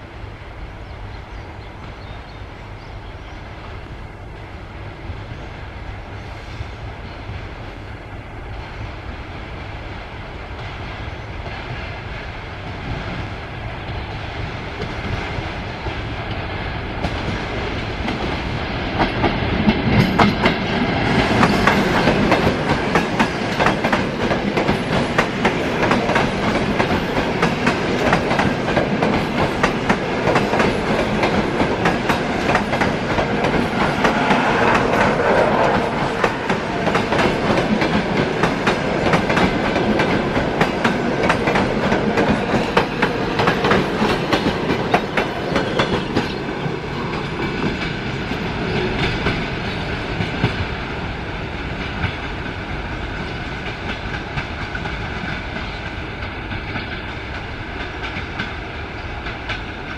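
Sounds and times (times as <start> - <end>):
train wheels clattering on rails: 8.6 - 59.9.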